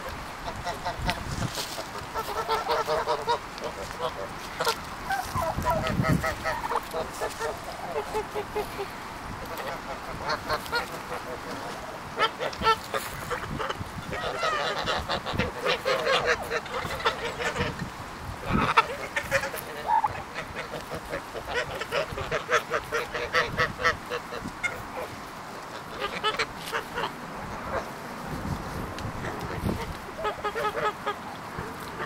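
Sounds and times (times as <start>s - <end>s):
geese honking and gabbling: 0.0s - 32.0s.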